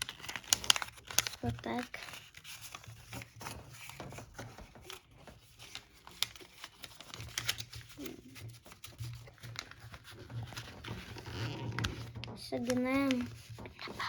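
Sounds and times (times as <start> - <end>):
paper rustling and crinkling: 0.0 - 14.0
light taps on paper: 0.4 - 14.0.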